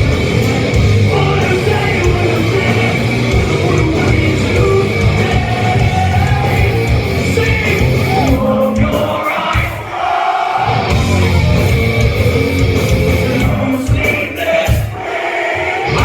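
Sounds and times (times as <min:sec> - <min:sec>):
heavy metal band playing live: 0:00.0 - 0:16.0.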